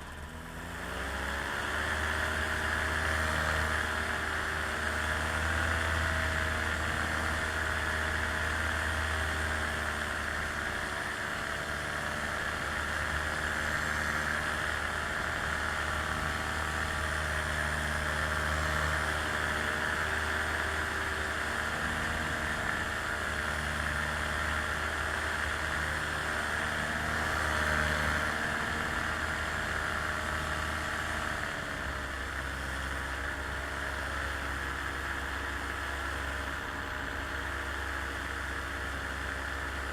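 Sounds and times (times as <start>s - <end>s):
small aircraft motor: 0.0s - 39.9s.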